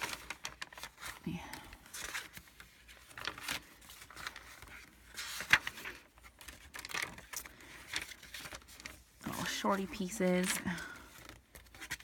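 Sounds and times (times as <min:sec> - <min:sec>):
paper pages flipping: 0:00.0 - 0:12.0.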